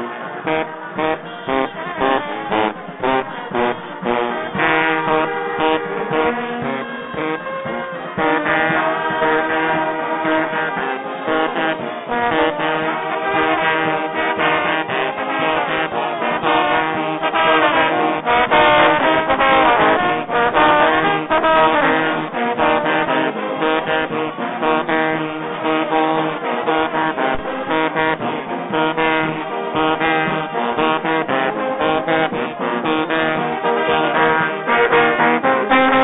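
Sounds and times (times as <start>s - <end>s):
music with a steady beat: 0.0s - 36.0s.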